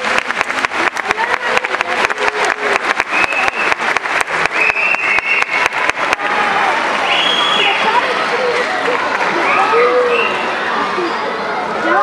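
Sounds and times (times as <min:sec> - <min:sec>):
audience applauding: 0:00.0 - 0:10.3
crowd calling out: 0:02.2 - 0:12.0.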